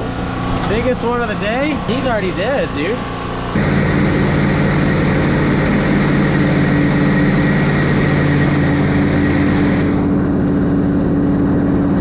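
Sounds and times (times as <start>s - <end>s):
boat engine droning hum: 0.0s - 12.0s.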